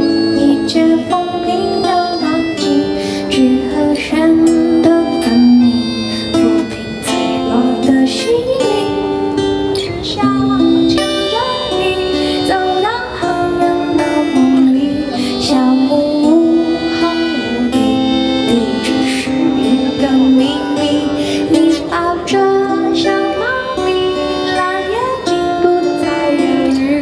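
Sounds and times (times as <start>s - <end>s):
accordion: 0.0s - 27.0s
acoustic guitar: 0.0s - 27.0s
woman singing into microphone: 0.0s - 27.0s.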